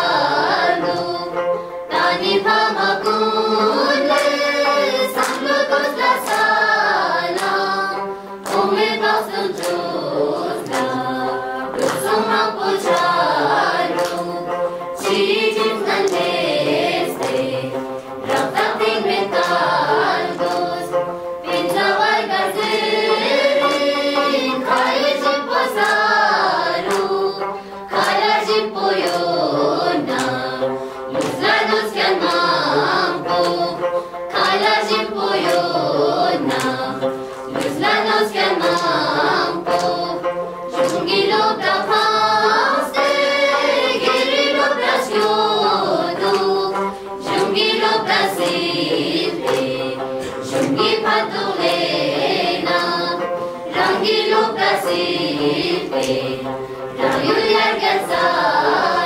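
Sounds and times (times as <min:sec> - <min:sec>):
children singing in unison: 0:00.0 - 0:59.0.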